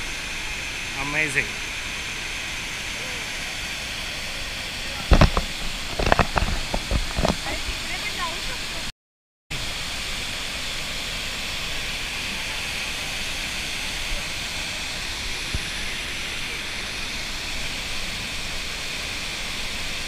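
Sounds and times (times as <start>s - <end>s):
waterfall pouring into pool: 0.0s - 8.9s, 9.5s - 20.0s.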